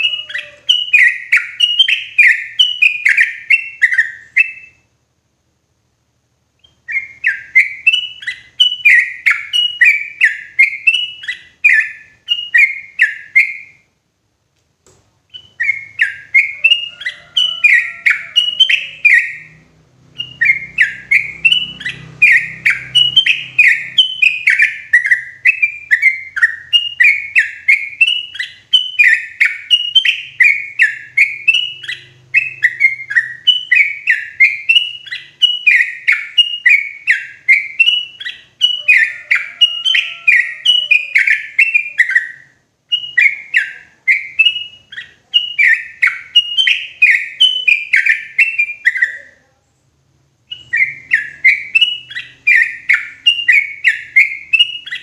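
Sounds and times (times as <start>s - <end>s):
bulbul chirping song: 0.0s - 5.0s, 6.6s - 14.0s, 15.2s - 49.4s, 50.4s - 55.0s.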